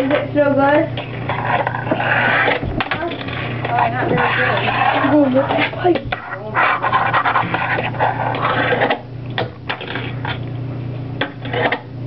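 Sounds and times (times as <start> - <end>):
fingerboard wheels rolling on wood: 1.0 - 10.4, 11.2 - 11.9.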